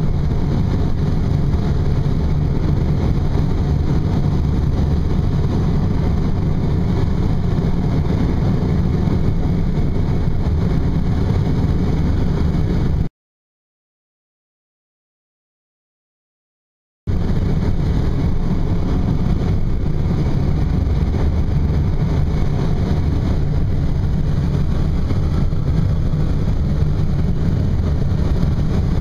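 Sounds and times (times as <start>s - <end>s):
air rushing around cockpit: 0.0s - 13.1s, 17.1s - 29.0s.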